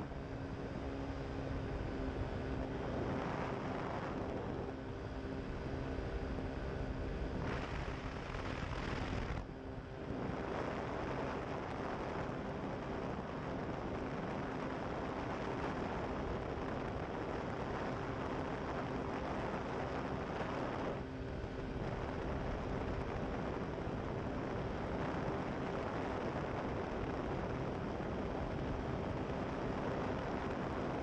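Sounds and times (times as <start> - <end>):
ultralight engine and propeller: 0.0 - 31.0
wind rushing over microphone: 0.0 - 31.0.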